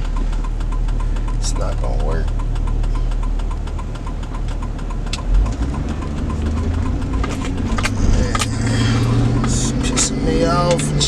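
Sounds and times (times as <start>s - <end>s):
car engine running: 0.0s - 11.0s
fast light ticking: 0.0s - 11.0s.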